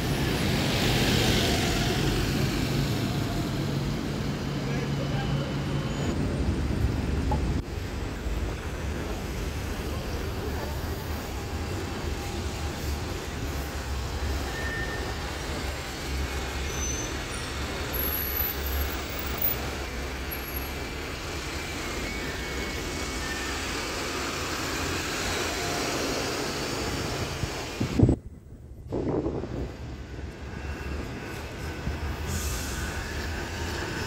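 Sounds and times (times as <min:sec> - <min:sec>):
bus engines rumbling: 0:00.0 - 0:34.0
city street traffic: 0:00.0 - 0:34.0.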